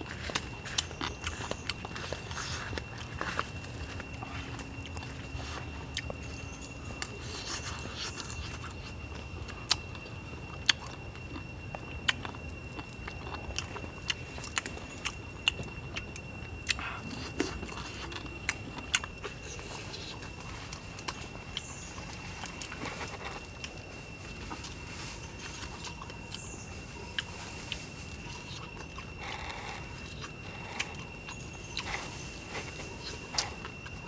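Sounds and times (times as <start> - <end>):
person chewing: 0.0 - 23.8, 27.0 - 34.0.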